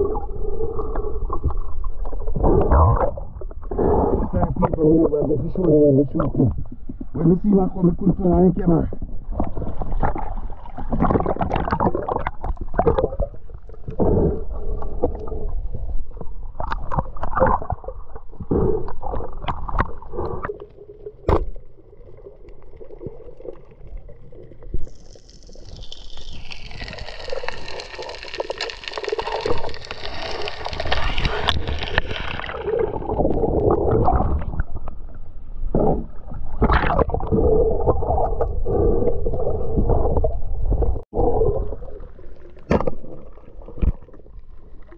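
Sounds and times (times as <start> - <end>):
water sloshing and gurgling: 0.0 - 44.9.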